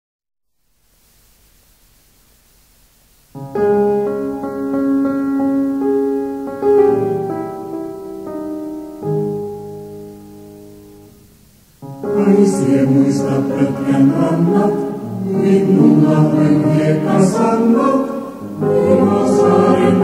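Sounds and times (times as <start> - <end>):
faint hiss: 0.4 - 20.0
piano chords and slow melody: 3.4 - 20.0.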